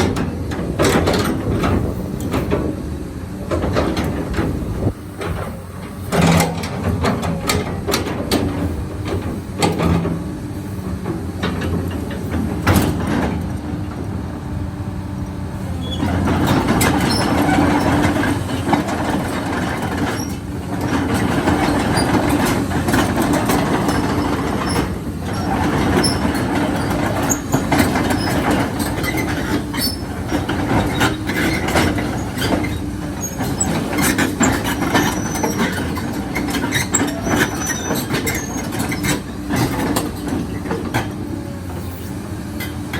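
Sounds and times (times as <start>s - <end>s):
excavator diesel engine humming: 0.0s - 42.9s.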